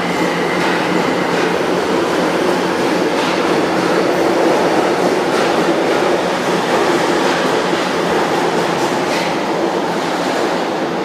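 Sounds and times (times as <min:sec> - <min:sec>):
subway train rushing past: 0:00.0 - 0:11.0.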